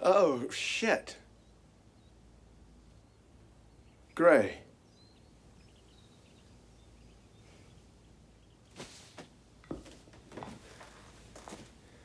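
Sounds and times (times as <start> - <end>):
faint background ambience: 0.0 - 12.0.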